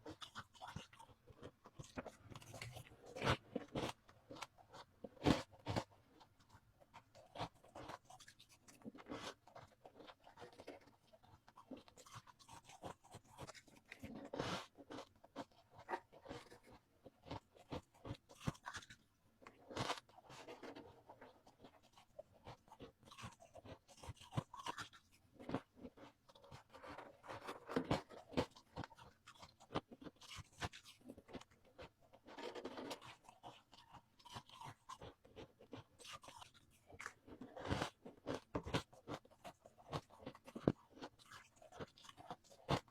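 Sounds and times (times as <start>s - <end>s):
ice crunching being chewed: 0.0s - 42.9s.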